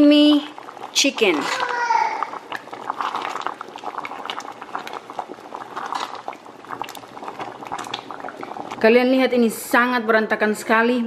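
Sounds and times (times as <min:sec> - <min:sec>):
soup bubbling in a pot: 0:00.0 - 0:10.2.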